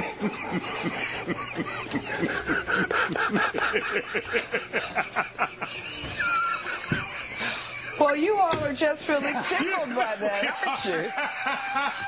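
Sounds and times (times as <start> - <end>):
people laughing uncontrollably: 0.0 - 8.0, 9.1 - 12.0.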